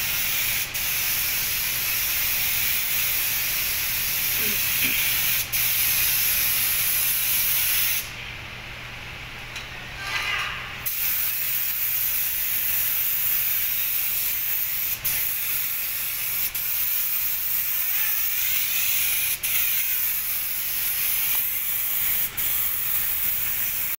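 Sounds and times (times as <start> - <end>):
paint spray gun hissing: 0.0 - 8.1, 10.9 - 24.0.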